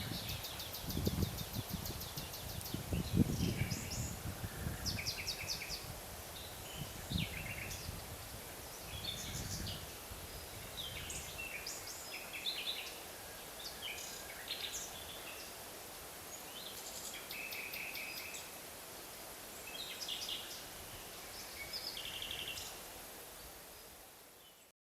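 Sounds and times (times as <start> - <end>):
songbirds chirping and trilling: 0.0 - 18.6, 19.4 - 24.6
faint forest background hiss: 0.0 - 24.7.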